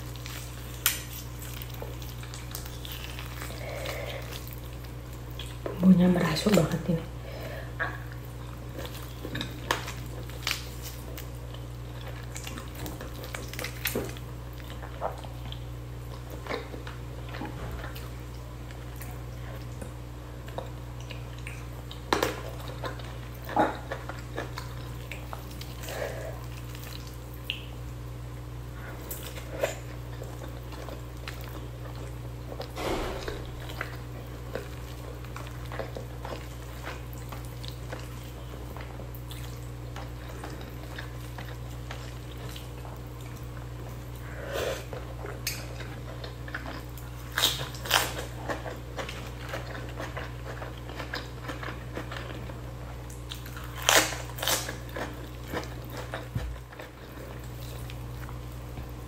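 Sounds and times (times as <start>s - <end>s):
wet chewing and mouth sounds: 0.0s - 6.7s, 7.4s - 59.0s
steady low hum: 0.0s - 59.0s.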